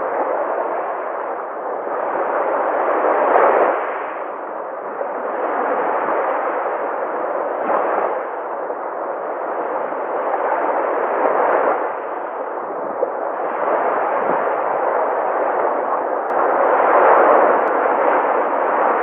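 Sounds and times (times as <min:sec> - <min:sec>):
sea waves breaking on shore: 0:00.0 - 0:19.0.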